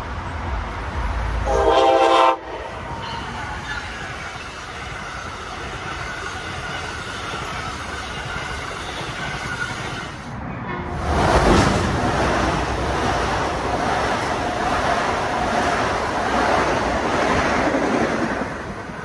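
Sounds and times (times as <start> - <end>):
express train rushing by: 0.0 - 19.0
train wheels rumbling on rail: 0.0 - 19.0.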